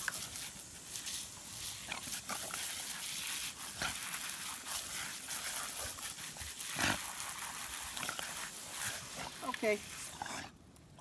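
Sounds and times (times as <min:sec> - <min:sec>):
hose water spraying: 0:00.0 - 0:10.4.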